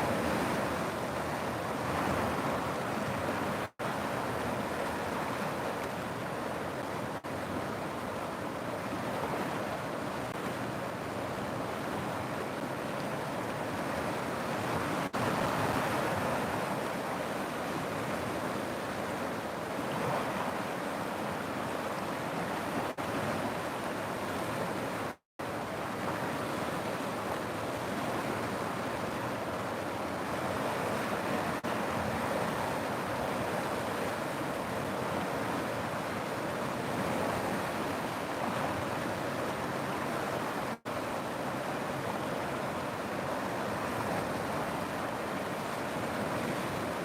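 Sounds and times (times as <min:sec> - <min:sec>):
rushing river water: 0:00.0 - 0:47.0.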